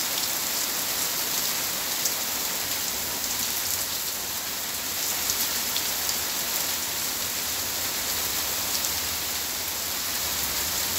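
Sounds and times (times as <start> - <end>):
heavy rain pouring: 0.0 - 10.9.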